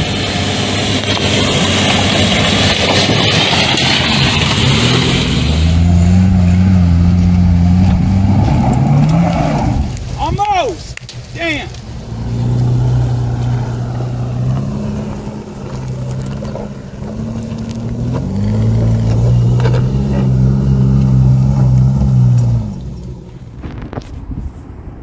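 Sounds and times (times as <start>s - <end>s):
car engine revving under load: 0.0s - 10.1s, 11.7s - 24.3s.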